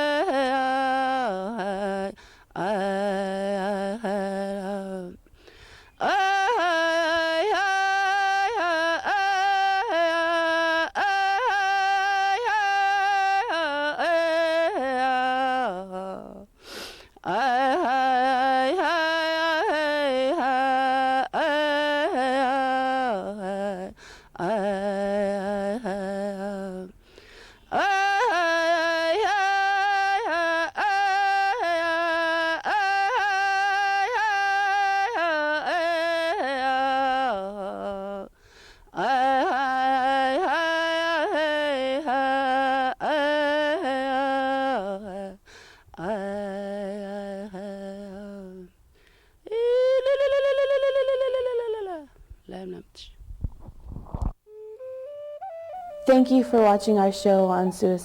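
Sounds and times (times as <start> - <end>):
man singing unaccompanied: 0.0 - 5.3, 5.9 - 16.6, 17.2 - 27.0, 27.6 - 48.8.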